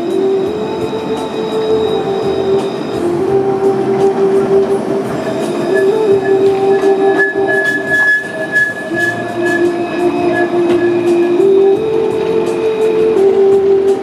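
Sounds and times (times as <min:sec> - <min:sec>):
electric tram passing: 0:00.0 - 0:14.0
high wheel squeal: 0:00.0 - 0:14.0.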